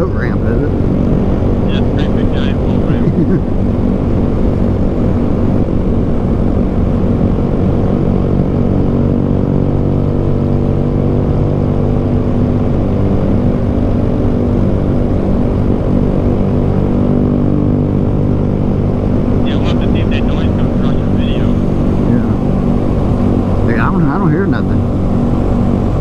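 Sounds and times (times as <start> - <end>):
motorcycle engines cruising: 0.0 - 26.0.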